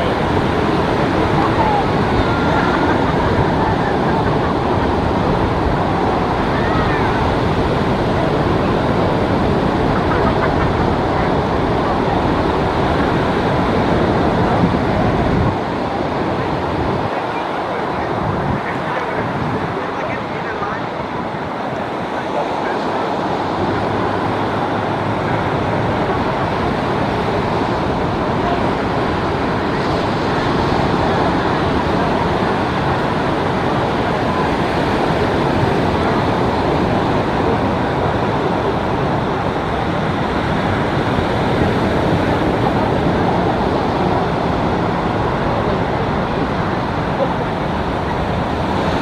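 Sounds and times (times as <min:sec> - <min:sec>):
ocean surf rushing: 0:00.0 - 0:49.0
wind noise on microphone: 0:00.0 - 0:49.0.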